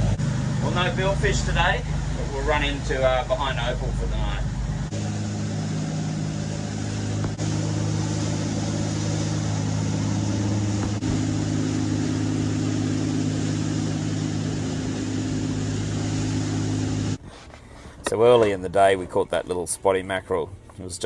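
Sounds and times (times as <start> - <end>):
boat engines droning: 0.0 - 21.0.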